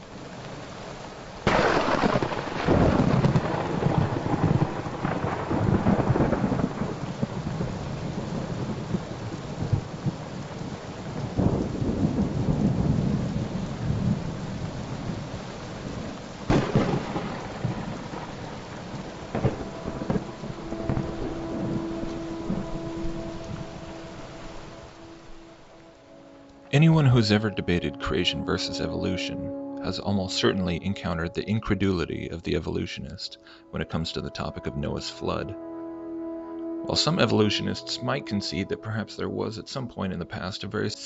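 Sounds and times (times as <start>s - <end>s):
steady rain: 0.0s - 41.0s
thunder rumbling: 1.4s - 35.7s, 36.7s - 40.9s.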